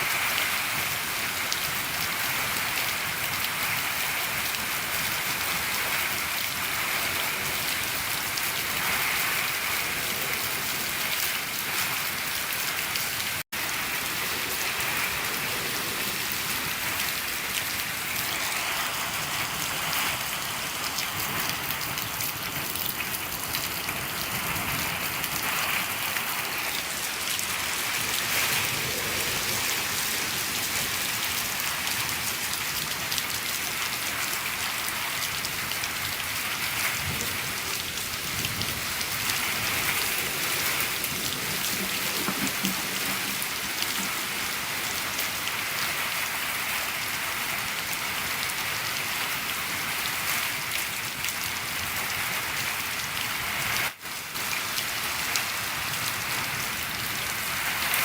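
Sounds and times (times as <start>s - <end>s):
rain on a shed roof: 0.0s - 58.0s.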